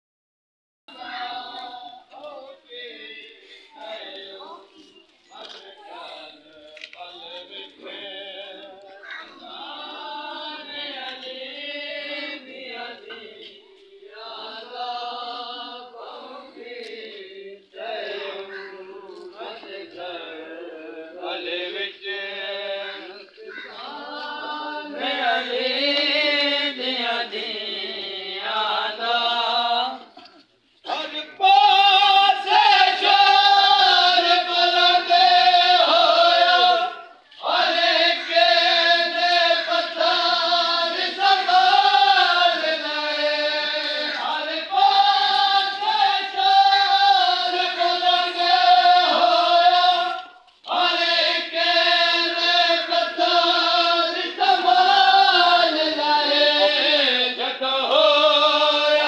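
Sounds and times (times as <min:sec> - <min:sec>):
group chanting a mourning lament: 0:00.9 - 0:59.0.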